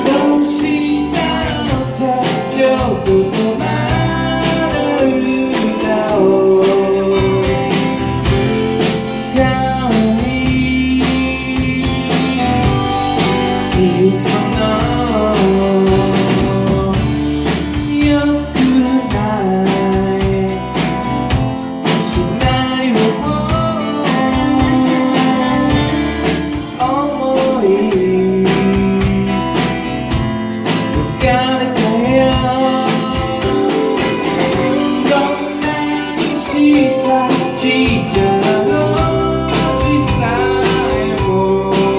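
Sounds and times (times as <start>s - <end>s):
drums: 0.0s - 41.9s
man singing: 0.0s - 41.9s
strummed acoustic guitar: 0.0s - 41.9s.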